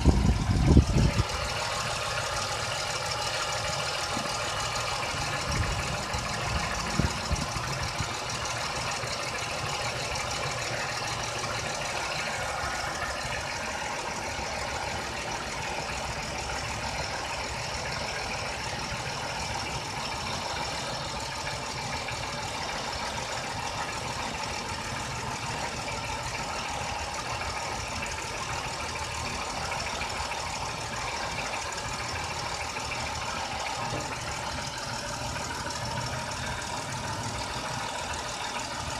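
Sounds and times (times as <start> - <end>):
car engine running: 0.0 - 38.9
engine knocks: 0.0 - 38.9.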